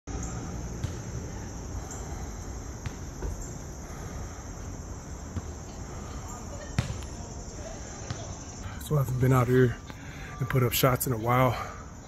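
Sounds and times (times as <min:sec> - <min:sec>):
insects droning: 0:00.1 - 0:12.0.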